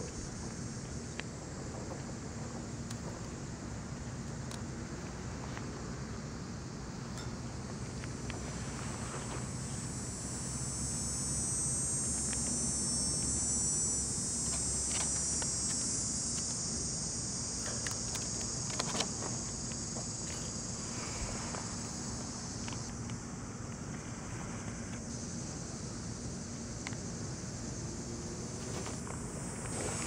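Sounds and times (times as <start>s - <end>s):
insect chirring: 0.0s - 30.0s.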